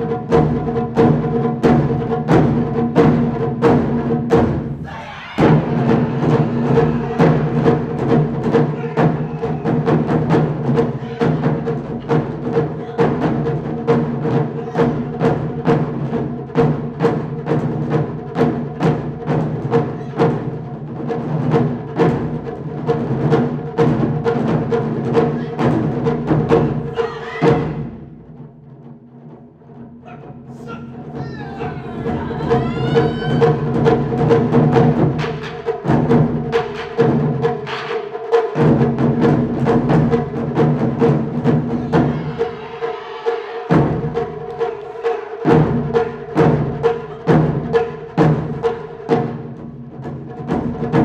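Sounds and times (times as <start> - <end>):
taiko drum ensemble: 0.0 - 51.0.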